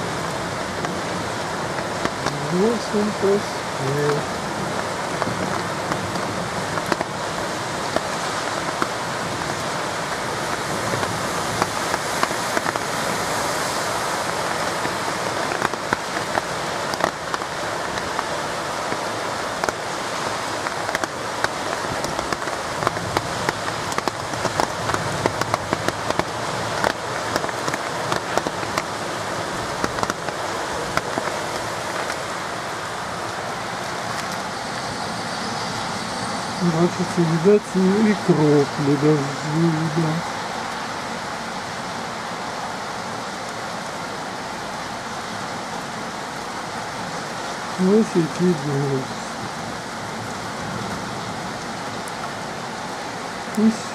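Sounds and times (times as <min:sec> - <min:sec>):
raindrops tapping close by: 0:00.0 - 0:34.9, 0:43.2 - 0:53.9
heavy rain falling: 0:00.0 - 0:53.9.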